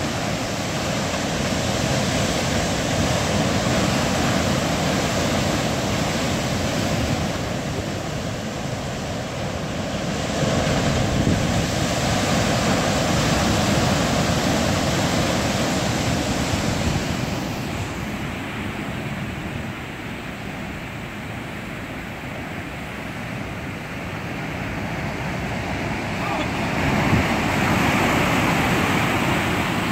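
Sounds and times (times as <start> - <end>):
surf breaking over rocks: 0.0 - 20.0, 24.6 - 29.9.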